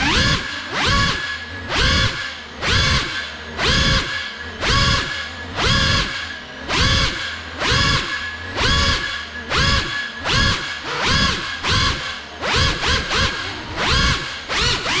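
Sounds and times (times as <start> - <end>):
drone motors revving: 0.0 - 15.0.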